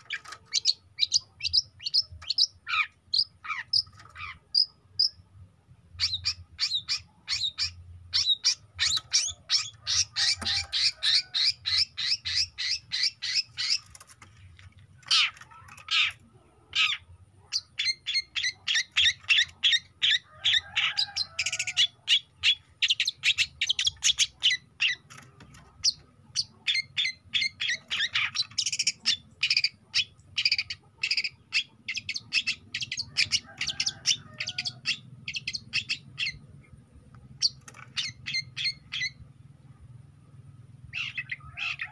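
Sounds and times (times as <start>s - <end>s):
shrike singing chattering song: 0.0s - 14.1s, 15.0s - 41.9s.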